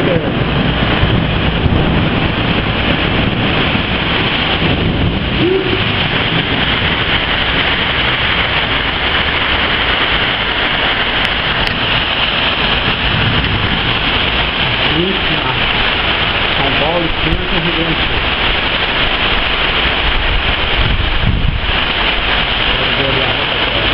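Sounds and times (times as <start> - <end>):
heavy rain: 0.0 - 23.9
strong wind gusts: 0.0 - 23.9.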